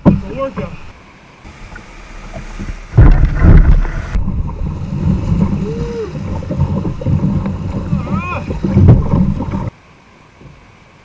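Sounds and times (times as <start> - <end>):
rushing river water: 0.0 - 11.0.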